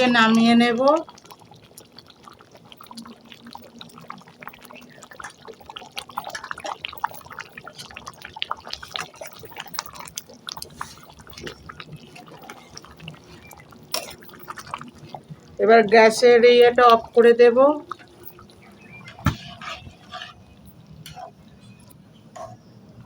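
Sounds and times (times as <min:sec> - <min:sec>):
bubbles popping: 0:00.0 - 0:19.8
thick lentils simmering: 0:00.0 - 0:23.0.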